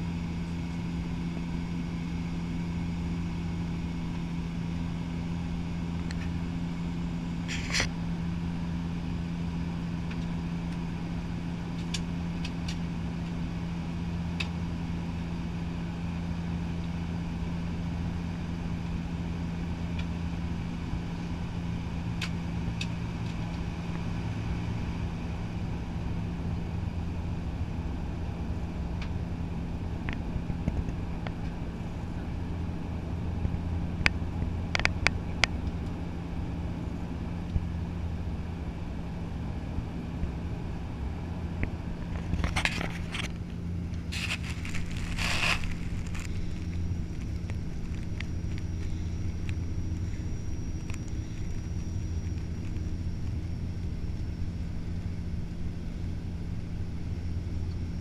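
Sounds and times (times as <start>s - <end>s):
propeller plane engine drone in cabin: 0.0s - 58.0s.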